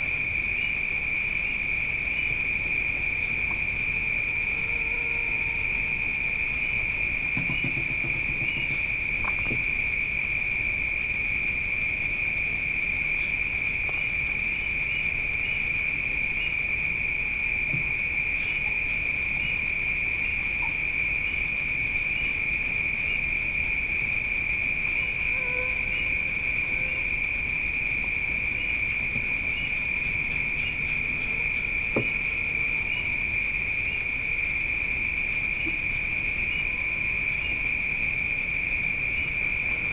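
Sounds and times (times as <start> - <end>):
night insects trilling: 0.0 - 39.9.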